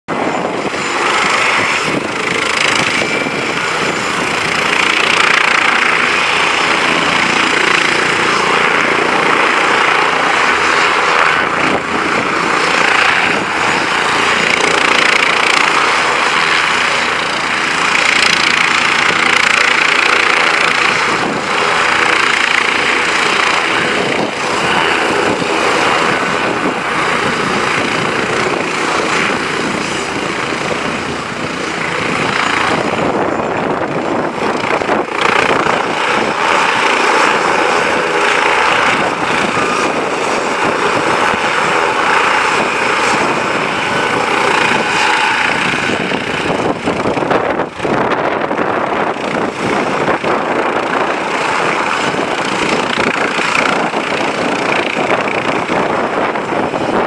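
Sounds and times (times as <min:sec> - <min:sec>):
helicopter turbine whine and rotors: 0:00.0 - 0:57.0.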